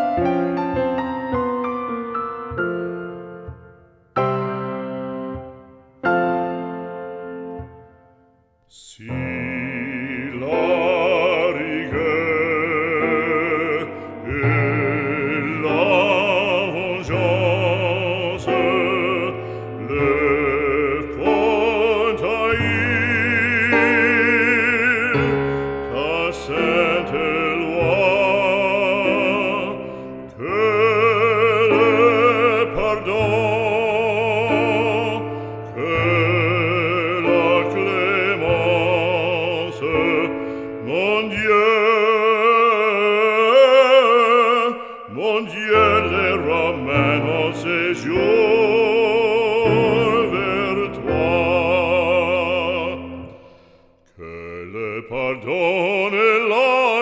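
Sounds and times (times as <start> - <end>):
operatic solo singing: 8.7 - 57.0.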